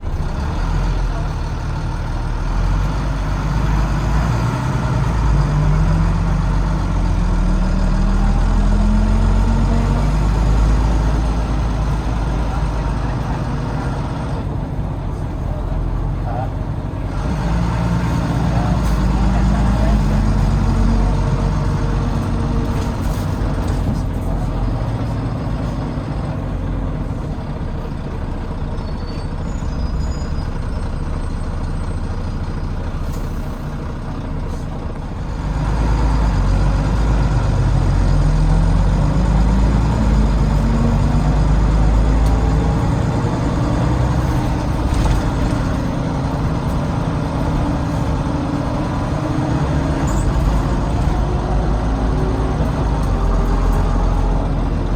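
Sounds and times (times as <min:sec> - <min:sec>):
bus diesel engine running: 0:00.0 - 0:54.9.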